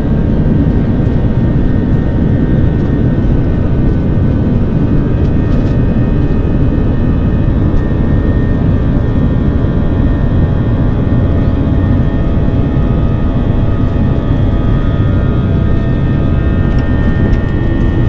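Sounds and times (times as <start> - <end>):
engine whining tones: 0.0 - 18.0
jet engine noise in cabin: 0.0 - 18.0.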